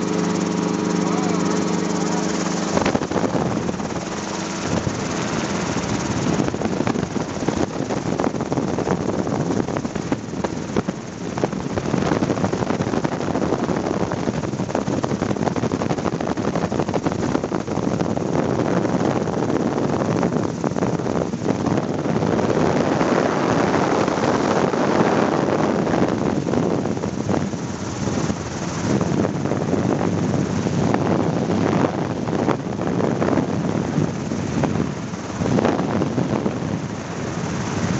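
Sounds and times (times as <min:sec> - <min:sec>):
helicopter engine and rotor: 0:00.0 - 0:37.9.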